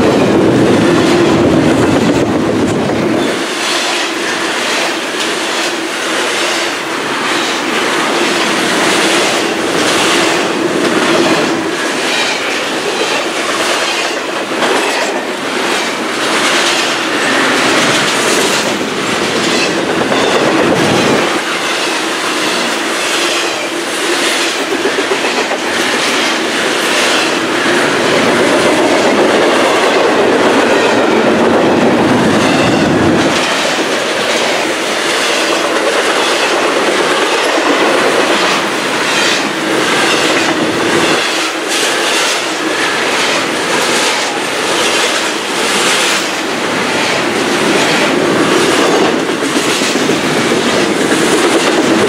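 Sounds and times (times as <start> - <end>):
freight train rumbling: 0.0 - 52.0
wheels clacking over rail joints: 0.0 - 52.0.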